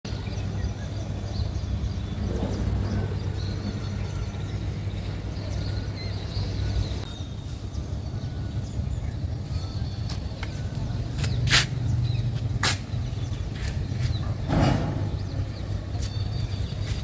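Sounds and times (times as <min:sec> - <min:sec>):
low outdoor rumble: 0:00.1 - 0:17.0.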